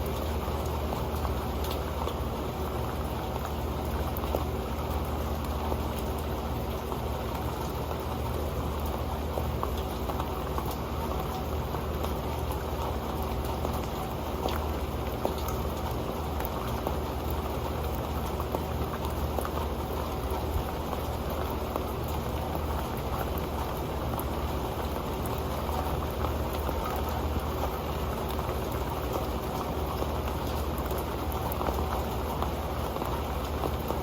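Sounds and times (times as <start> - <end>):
rain on a metal pan: 0.0 - 34.0.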